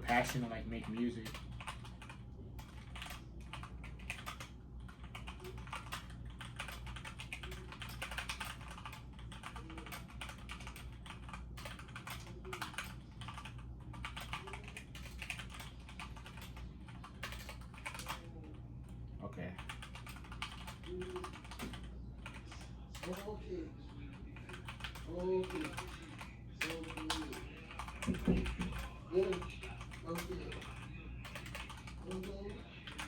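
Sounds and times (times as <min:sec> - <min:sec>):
typing on computer keyboard: 0:00.0 - 0:18.6, 0:19.5 - 0:23.4, 0:24.0 - 0:33.0.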